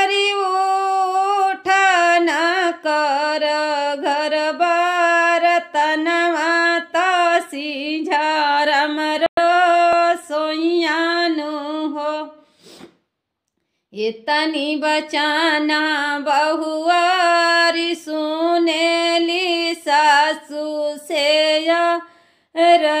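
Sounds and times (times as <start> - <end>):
woman singing folk song unaccompanied: 0.0 - 12.5, 13.9 - 23.0.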